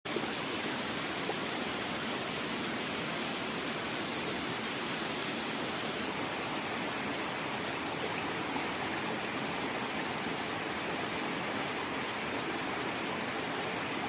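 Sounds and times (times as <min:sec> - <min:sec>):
river water rushing: 0:00.1 - 0:14.0.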